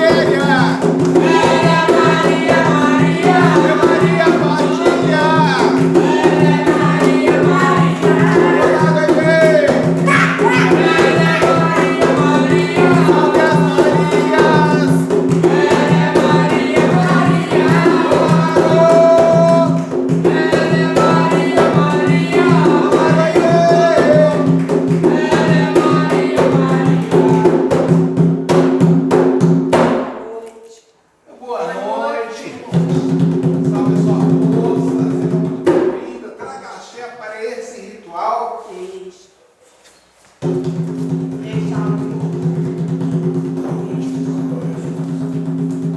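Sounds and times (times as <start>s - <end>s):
voices singing: 0.0s - 28.6s, 30.1s - 39.5s
fast dense drumming: 0.0s - 30.0s, 32.7s - 36.0s, 40.4s - 45.9s.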